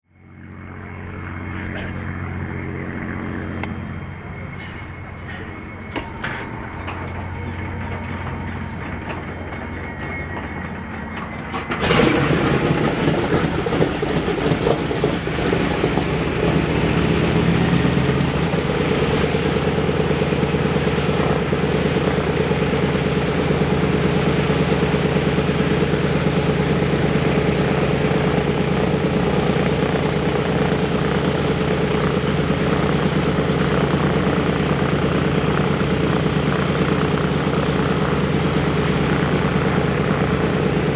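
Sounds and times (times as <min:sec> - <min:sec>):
radial aircraft engine starting: 0:00.2 - 0:40.9.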